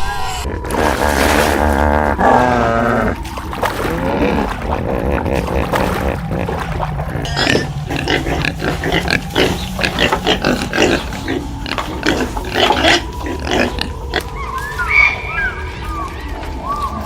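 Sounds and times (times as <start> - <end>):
pigs grunting: 0.2 - 17.0.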